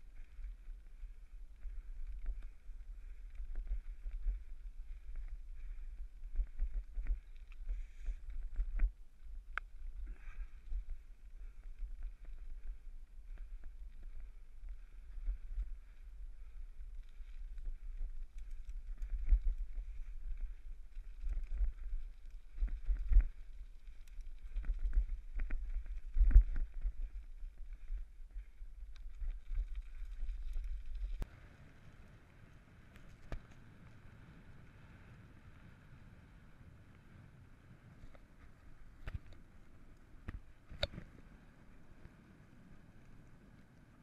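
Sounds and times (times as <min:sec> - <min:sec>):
bicycle tyres rumbling on dirt: 0:00.0 - 0:44.0.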